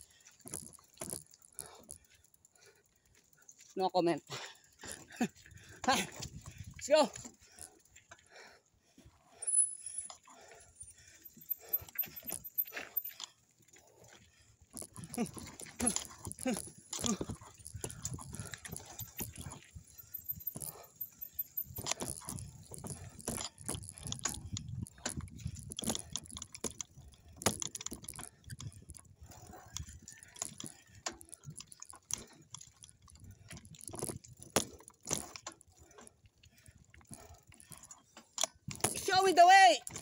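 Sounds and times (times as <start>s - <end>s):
bike rattling and knocking: 0.0s - 40.0s.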